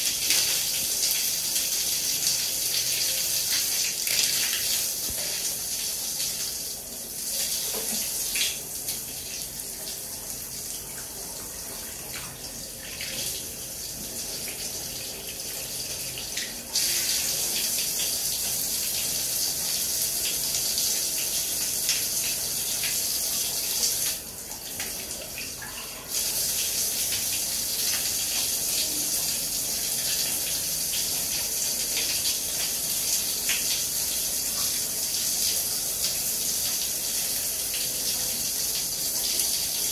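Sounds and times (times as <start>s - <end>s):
shower water spraying on tiles: 0.0s - 10.0s, 15.8s - 39.9s.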